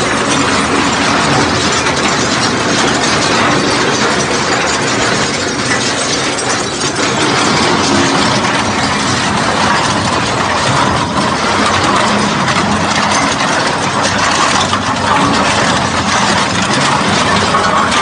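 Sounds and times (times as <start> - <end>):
low machine drone: 0.0 - 18.0
metal breaking clatter: 0.0 - 18.0.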